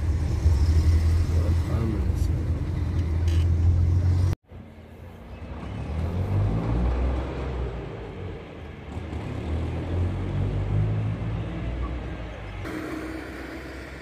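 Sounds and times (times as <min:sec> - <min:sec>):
traffic passing: 0:00.0 - 0:14.0.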